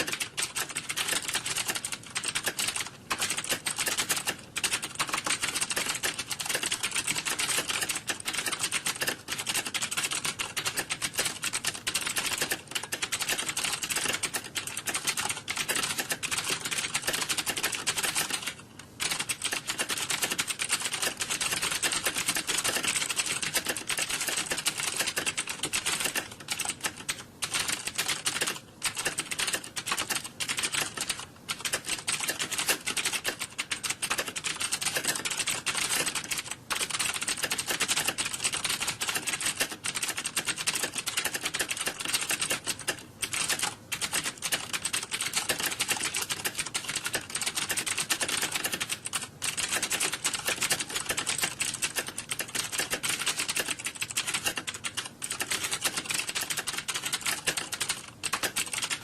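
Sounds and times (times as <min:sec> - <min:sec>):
keyboard typing: 0:00.0 - 0:59.0.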